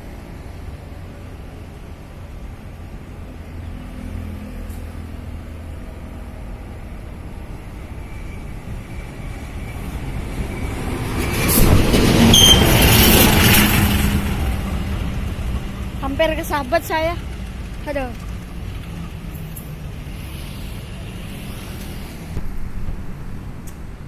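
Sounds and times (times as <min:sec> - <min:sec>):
train passing close by: 0:00.0 - 0:24.0.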